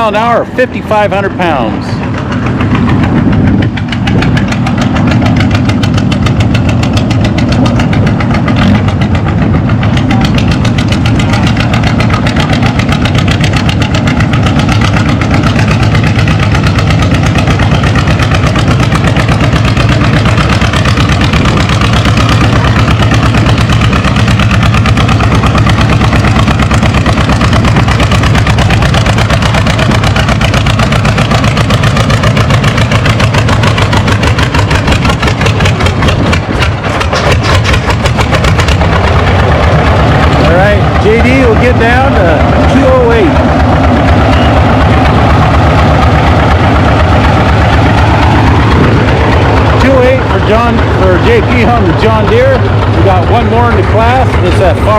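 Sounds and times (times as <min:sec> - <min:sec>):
tractor engine working under load: 0:00.0 - 0:54.9.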